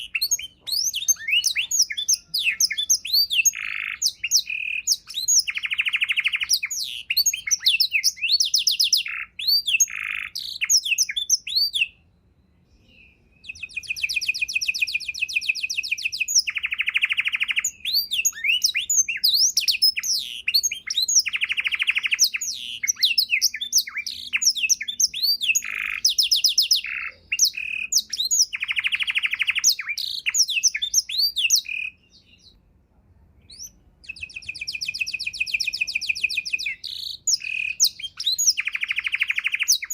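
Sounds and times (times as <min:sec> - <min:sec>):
canary singing: 0:00.0 - 0:32.6, 0:33.4 - 0:39.9.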